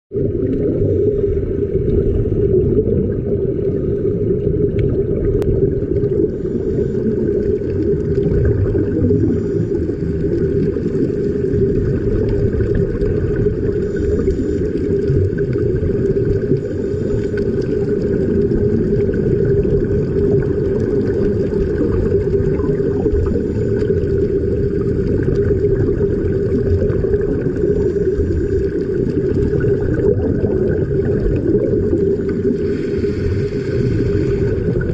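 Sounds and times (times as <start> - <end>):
air bubbling underwater: 0.1 - 34.9
underwater low rumble: 0.1 - 34.9.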